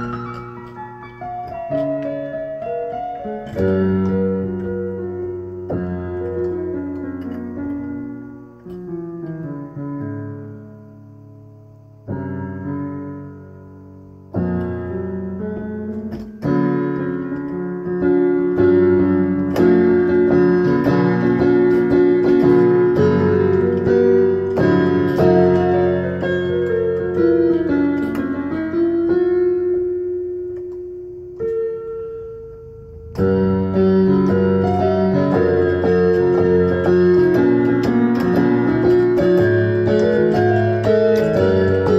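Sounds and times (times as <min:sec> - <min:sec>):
piano chords: 0:00.0 - 0:41.9.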